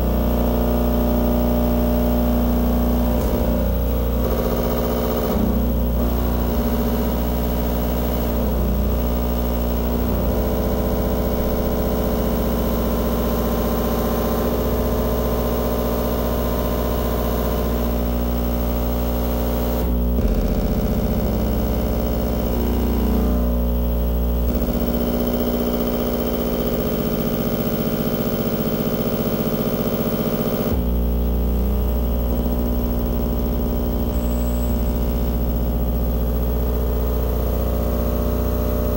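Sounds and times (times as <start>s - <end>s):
deep hum: 0.0s - 18.9s, 19.8s - 26.9s, 30.0s - 38.9s
electronic buzzing drone: 0.0s - 38.9s.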